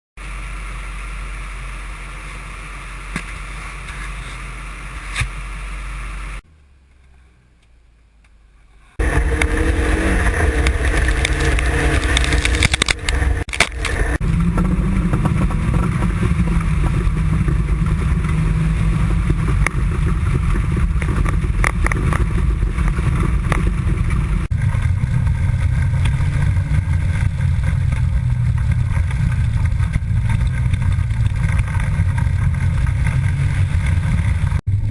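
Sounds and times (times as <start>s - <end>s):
car engine running: 0.2s - 34.9s.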